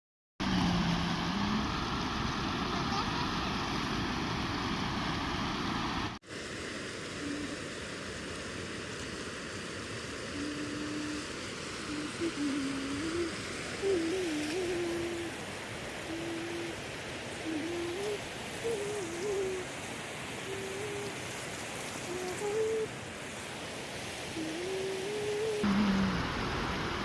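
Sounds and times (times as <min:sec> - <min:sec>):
river rushing: 0:00.4 - 0:27.0.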